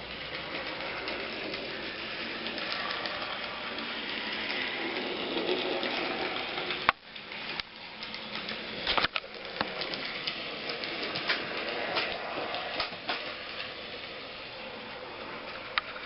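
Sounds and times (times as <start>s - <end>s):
model train whirring clatter: 0.0s - 16.0s.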